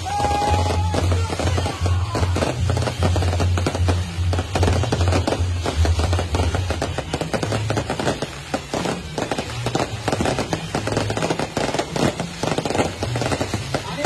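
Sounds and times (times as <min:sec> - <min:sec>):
firecrackers crackling bangs: 0:00.0 - 0:14.0.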